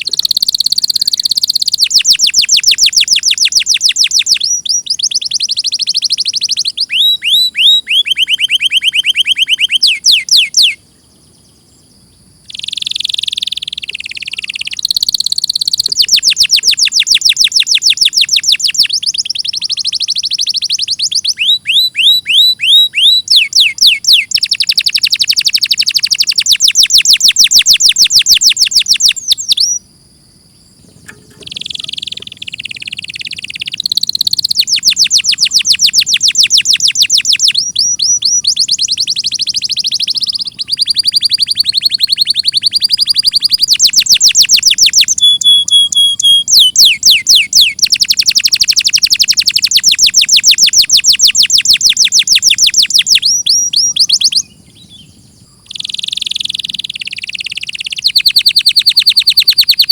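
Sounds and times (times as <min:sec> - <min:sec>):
canary singing trills: 0:00.0 - 0:29.9, 0:30.5 - 0:59.9.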